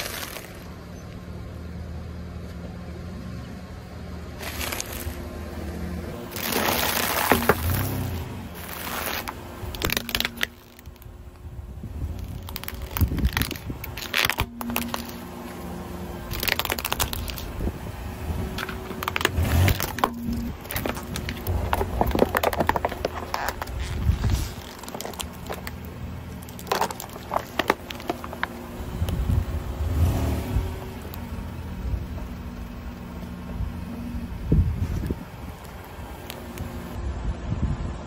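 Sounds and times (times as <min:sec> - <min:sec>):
plastic crackling under tyre: 0:00.0 - 0:00.9, 0:04.3 - 0:37.0
car low rumble: 0:00.0 - 0:38.0.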